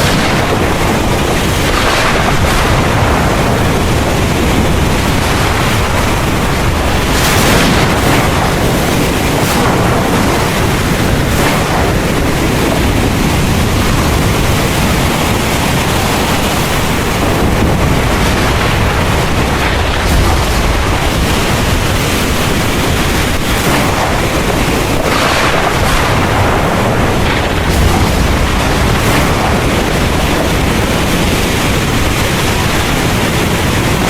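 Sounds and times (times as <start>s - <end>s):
heavy rain pouring: 0.0s - 34.0s
thunder rumbling: 0.0s - 34.0s.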